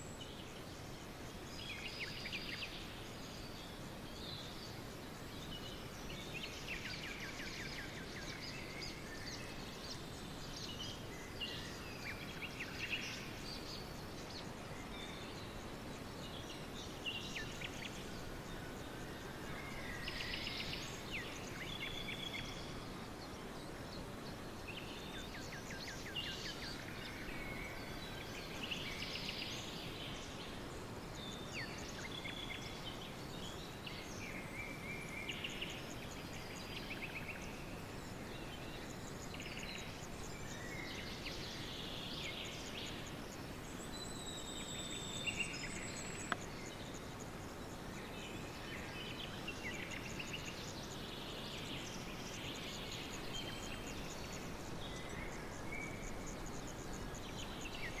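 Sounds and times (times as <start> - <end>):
small birds chirping and trilling: 0.0 - 58.0
steady outdoor hiss: 0.0 - 58.0.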